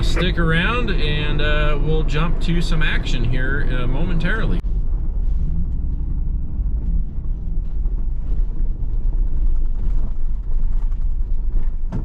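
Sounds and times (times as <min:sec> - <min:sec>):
truck rumbling on dirt road: 0:00.0 - 0:12.0.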